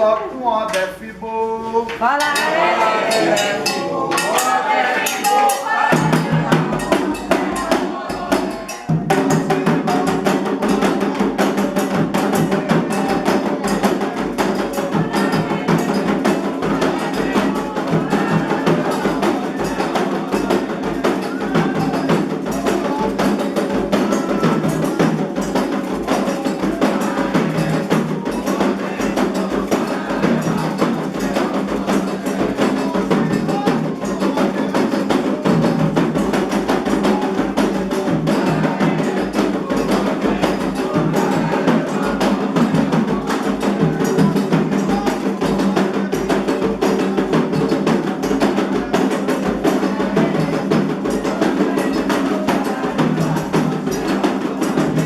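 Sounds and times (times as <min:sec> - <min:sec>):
voices singing a chant: 0:00.0 - 0:55.0
sharp clacking percussion: 0:02.0 - 0:55.0
hand drums in fast rhythm: 0:02.1 - 0:55.0.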